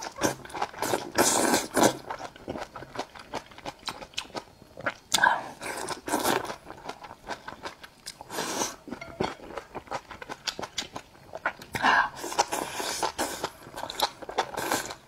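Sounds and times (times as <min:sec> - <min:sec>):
crisp crunching chews: 0:00.0 - 0:15.0.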